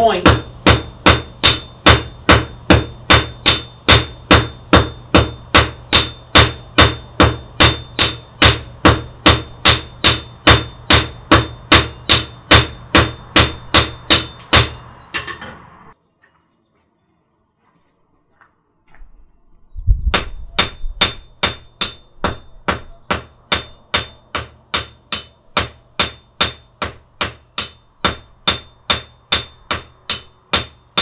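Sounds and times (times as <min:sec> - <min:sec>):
hammer striking iron on anvil: 0:00.0 - 0:15.7, 0:20.1 - 0:31.0.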